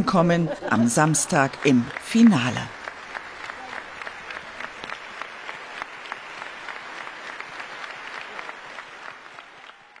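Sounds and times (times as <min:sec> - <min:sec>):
audience applause: 0:00.7 - 0:10.0.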